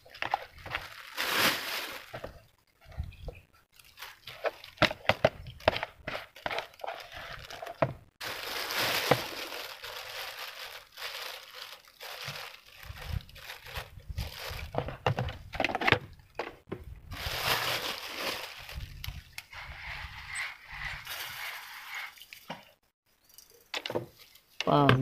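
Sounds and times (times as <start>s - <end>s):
crinkling and rustling: 0.0s - 22.8s.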